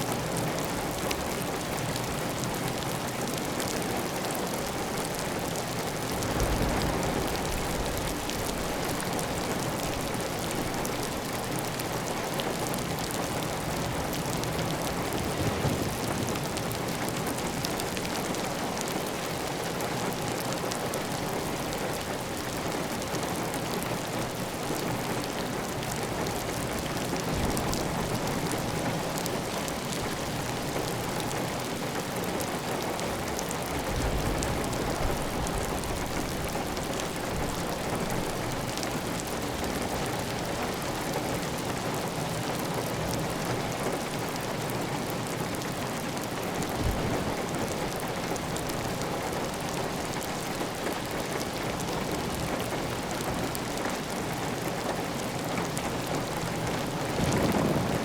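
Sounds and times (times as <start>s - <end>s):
heavy rain on a tile roof: 0.0s - 58.0s.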